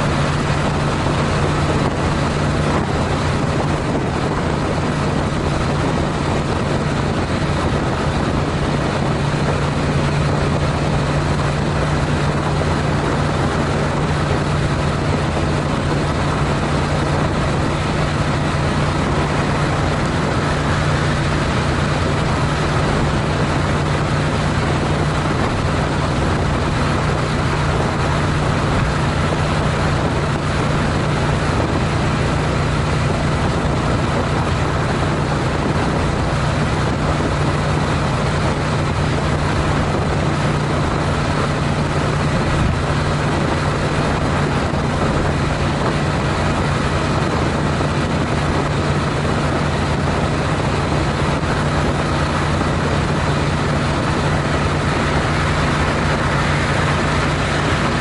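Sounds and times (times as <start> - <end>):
motorcycle engine droning: 0.0 - 58.0
road noise: 0.0 - 58.0
wind rush: 0.0 - 58.0.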